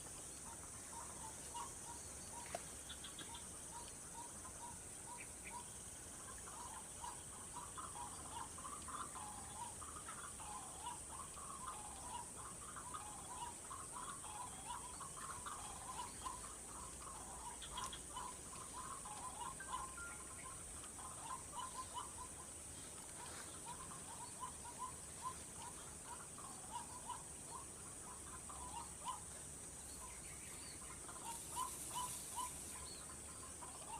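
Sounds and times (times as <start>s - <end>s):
waterhens calling: 0.0s - 33.9s.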